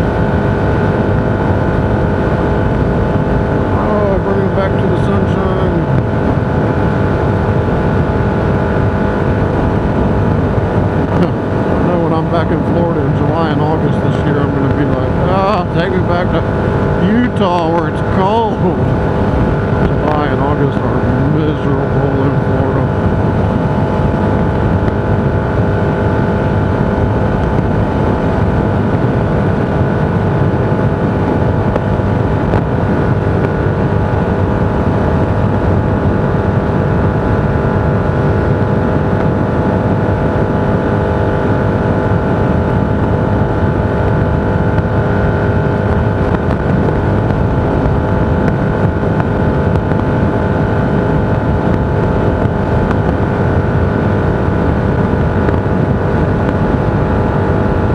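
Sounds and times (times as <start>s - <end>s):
road and wind noise in vehicle: 0.0s - 57.9s
steady humming tones: 0.0s - 57.9s.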